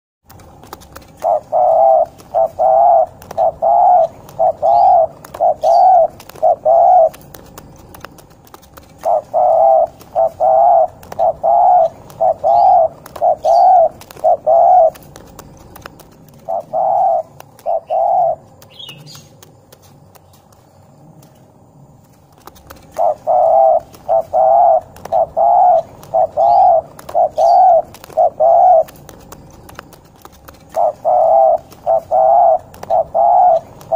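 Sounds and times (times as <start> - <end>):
dove cooing: 0.3 - 19.8, 22.3 - 33.9.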